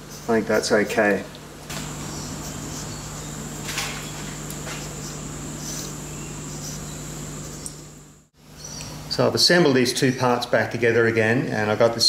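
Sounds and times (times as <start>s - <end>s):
machine hum with high whine: 0.0s - 12.0s.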